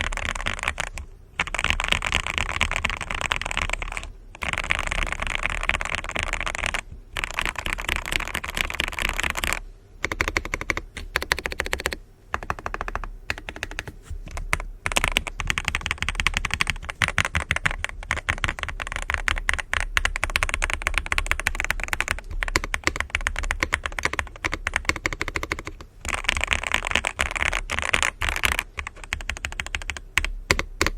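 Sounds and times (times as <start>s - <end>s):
fast typing on mechanical keyboard: 0.0s - 30.9s.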